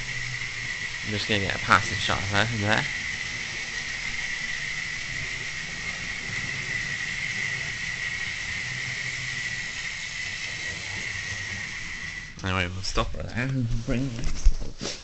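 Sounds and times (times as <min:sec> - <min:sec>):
model locomotive motor whine: 0:00.0 - 0:14.4.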